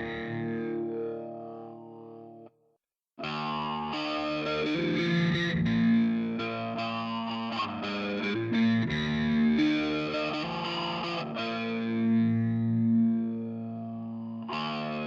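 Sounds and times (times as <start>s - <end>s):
distorted electric guitar: 0.0s - 2.5s, 3.2s - 15.0s.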